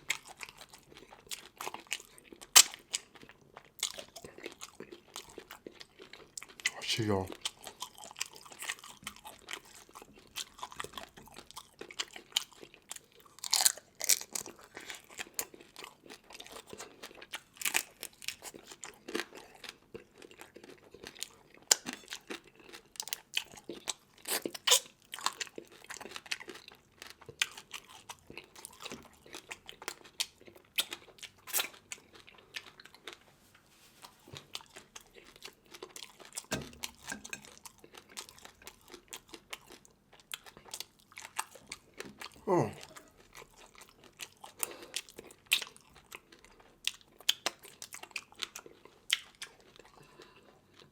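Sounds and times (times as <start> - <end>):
wet chewing and crunching: 0.0 - 50.9.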